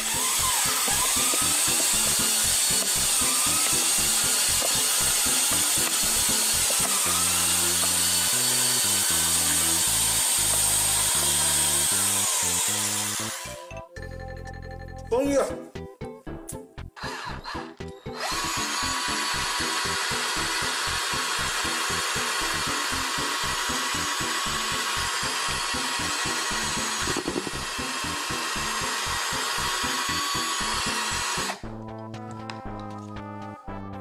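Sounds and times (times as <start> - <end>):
power drill motor whine: 0.0 - 13.6, 17.0 - 31.6.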